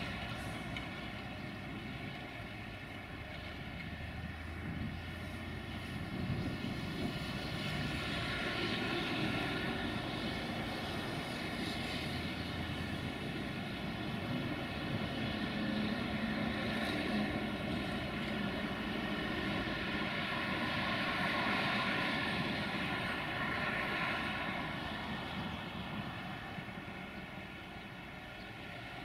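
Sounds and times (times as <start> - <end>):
diesel locomotive engine running: 0.0 - 29.0.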